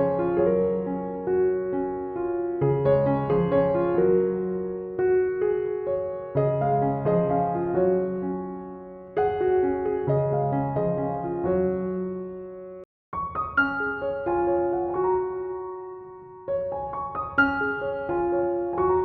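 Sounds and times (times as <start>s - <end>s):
calm piano music: 0.0s - 19.0s.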